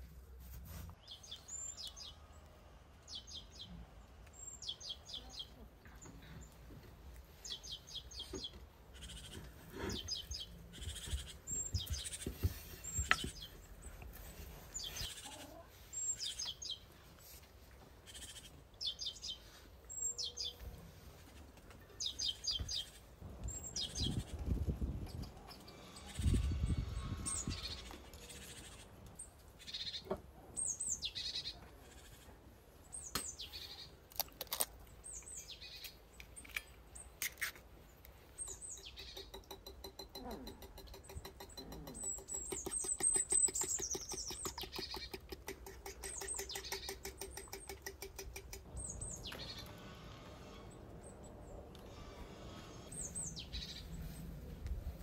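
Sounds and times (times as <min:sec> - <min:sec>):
songbird singing: 0:01.0 - 0:17.0, 0:18.0 - 0:34.1, 0:34.9 - 0:37.2, 0:37.8 - 0:54.9.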